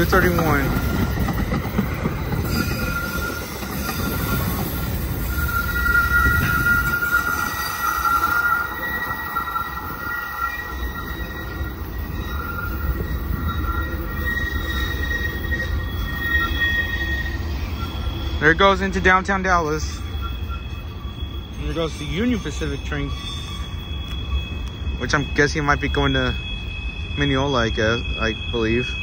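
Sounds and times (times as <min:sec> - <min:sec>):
rail cars rumbling past: 0:00.0 - 0:29.0
train wheels squealing on rails: 0:00.0 - 0:29.0.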